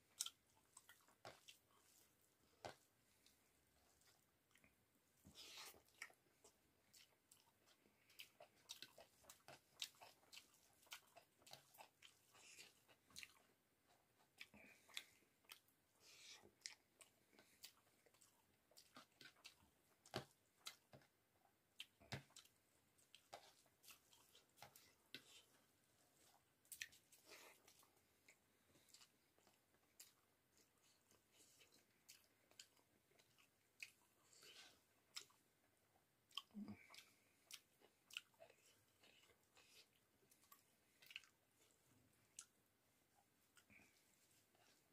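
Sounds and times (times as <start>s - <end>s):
chewing food: 0.0s - 44.9s.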